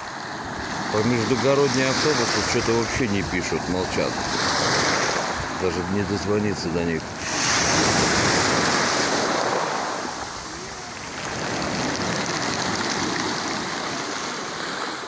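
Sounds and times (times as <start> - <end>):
waves washing on pebble beach: 0.0 - 15.0.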